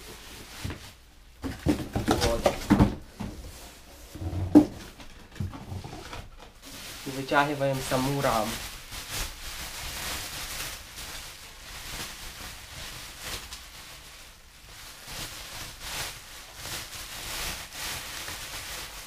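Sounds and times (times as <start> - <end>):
bubble wrap rustling and crinkling: 0.0 - 19.0.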